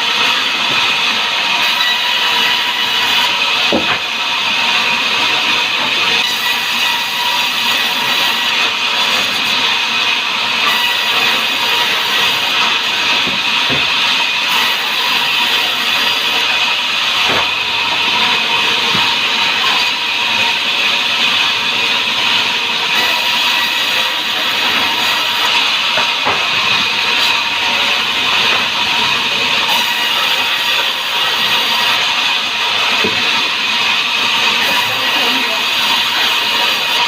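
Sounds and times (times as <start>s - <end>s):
sawmill saw cutting log: 0.0s - 37.0s.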